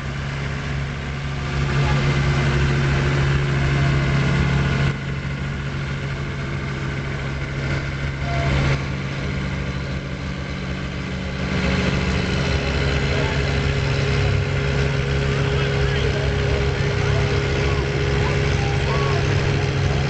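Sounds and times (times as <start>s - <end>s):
vehicle engine running under load: 0.0s - 20.0s.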